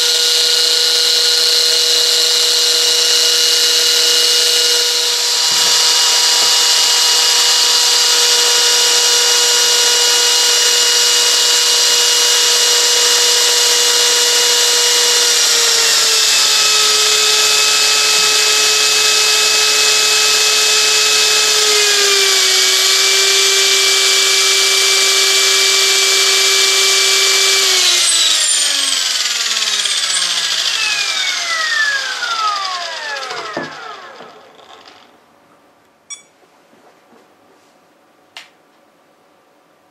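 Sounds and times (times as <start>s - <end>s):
rc helicopter whine: 0.0s - 35.0s.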